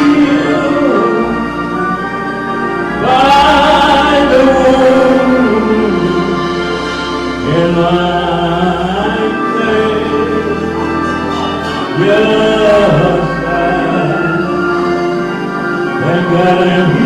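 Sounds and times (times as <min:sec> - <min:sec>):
low bass line: 0:00.0 - 0:17.0
voices singing gospel: 0:00.0 - 0:17.0.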